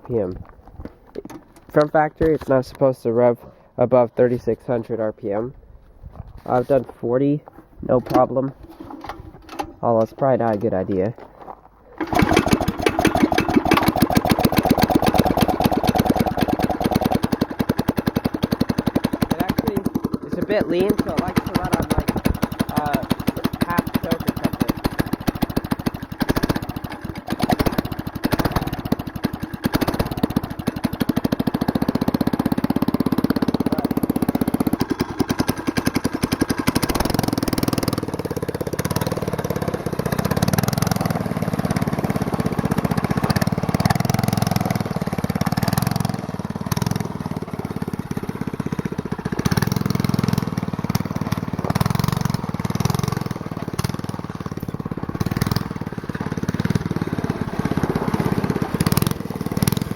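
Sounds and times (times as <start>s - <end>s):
go-kart engine running: 8.1s - 10.7s, 11.9s - 59.9s.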